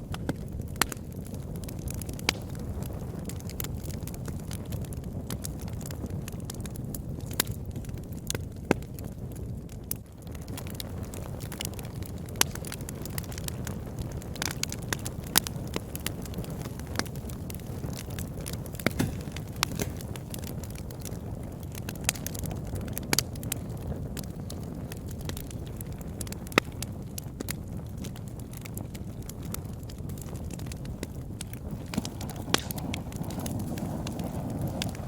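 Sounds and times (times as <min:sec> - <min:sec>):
fire crackling in fireplace: 0:00.0 - 0:35.0.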